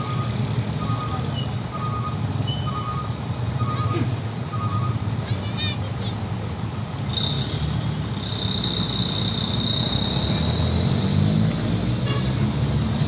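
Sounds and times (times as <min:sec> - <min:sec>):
heavy truck engine running: 0:00.0 - 0:13.0
motorcycles passing: 0:00.0 - 0:13.0.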